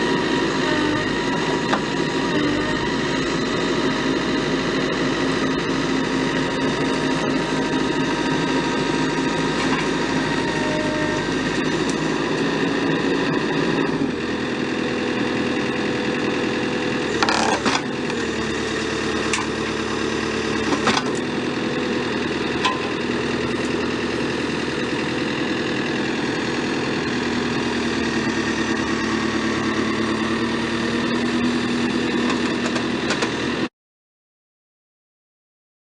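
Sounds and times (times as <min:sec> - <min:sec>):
diesel engine running: 0:00.0 - 0:33.7.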